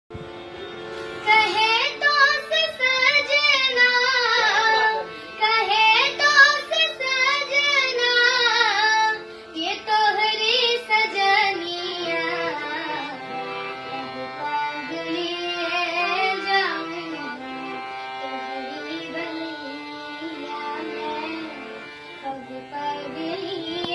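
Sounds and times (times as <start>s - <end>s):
instrumental drone: 0.1s - 23.9s
girl singing: 1.2s - 23.9s.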